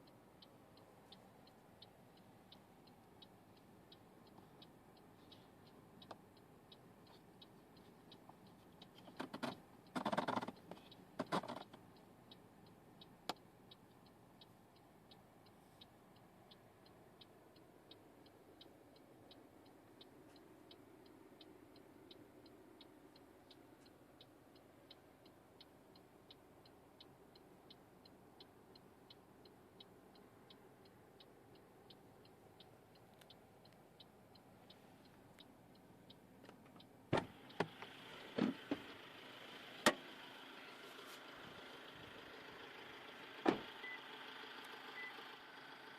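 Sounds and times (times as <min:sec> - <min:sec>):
faint steady ticking: 0:00.0 - 0:45.9.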